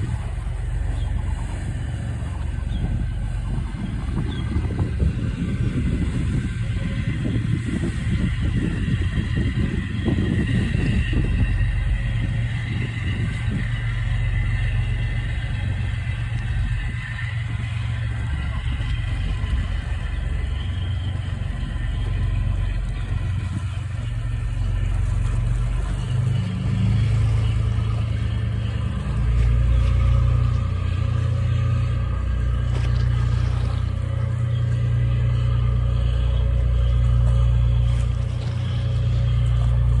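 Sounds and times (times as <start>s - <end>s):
boat engines deep rumble: 0.0s - 40.0s.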